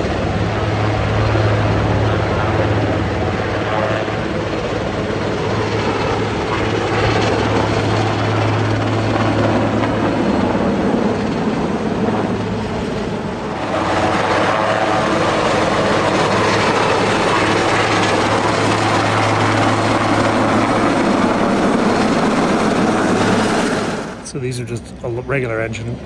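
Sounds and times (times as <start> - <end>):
helicopter rotors and turbine: 0.0 - 26.0.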